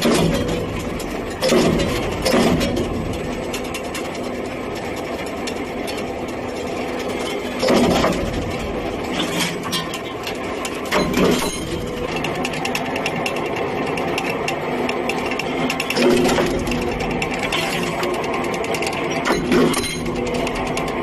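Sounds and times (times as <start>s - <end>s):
machine clattering: 0.0s - 21.0s.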